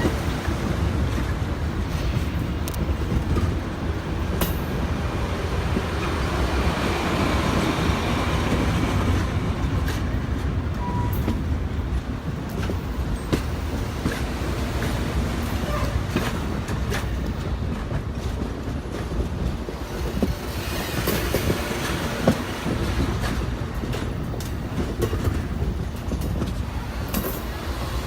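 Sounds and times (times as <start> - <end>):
train rumbling past: 0.0 - 28.0
wheels clicking on rails: 0.0 - 28.0.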